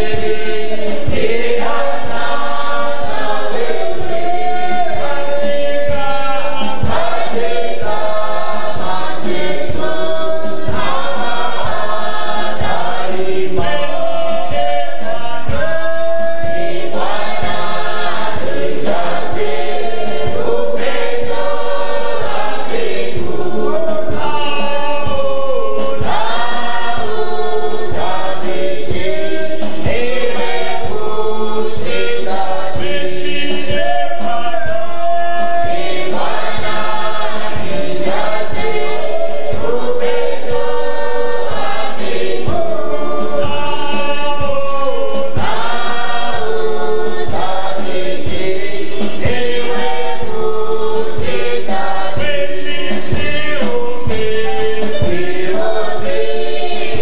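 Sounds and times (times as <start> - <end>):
group singing worship song: 0.0 - 57.0
steady drum beat: 0.0 - 57.0.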